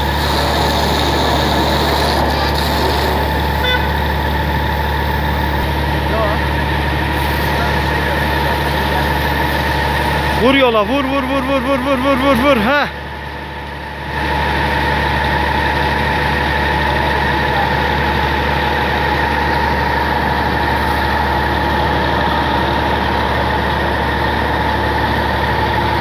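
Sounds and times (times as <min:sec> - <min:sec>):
pump high whine: 0:00.0 - 0:26.0
tractor engine running: 0:00.0 - 0:26.0.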